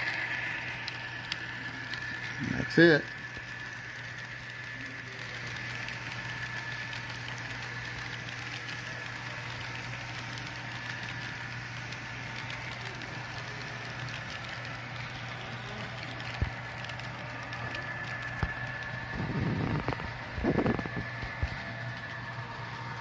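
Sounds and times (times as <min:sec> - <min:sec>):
faint clicking of wheels on track: 0:00.0 - 0:23.0.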